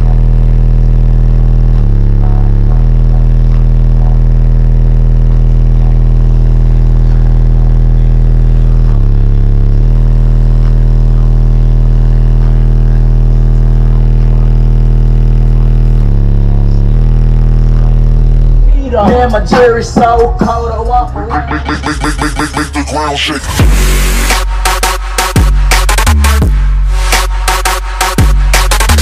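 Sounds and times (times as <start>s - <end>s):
subwoofers playing deep bass notes: 0.0s - 29.0s.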